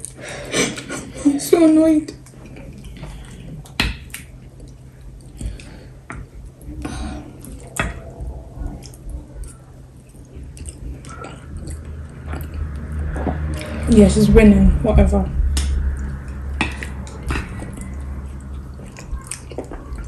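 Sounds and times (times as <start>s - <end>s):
wet chewing: 2.1s - 13.8s, 15.5s - 20.0s.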